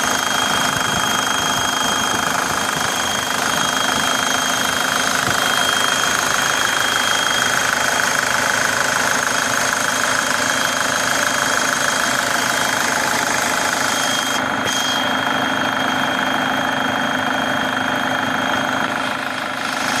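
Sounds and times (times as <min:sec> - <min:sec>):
engine idling: 0:00.0 - 0:20.0
turbocharger whistle: 0:00.0 - 0:20.0.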